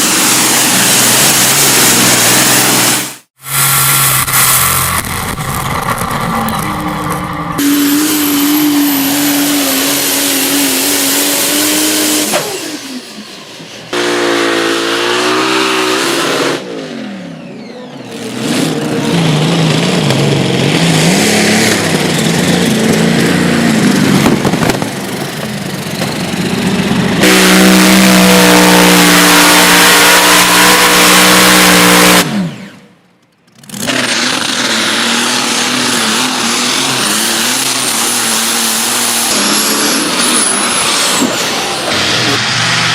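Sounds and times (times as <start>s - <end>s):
engines running hard under load: 0.0s - 42.9s.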